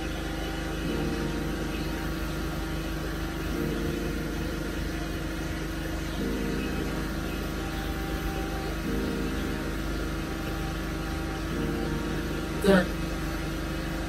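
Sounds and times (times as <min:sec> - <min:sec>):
low engine-like drone: 0:00.0 - 0:14.0.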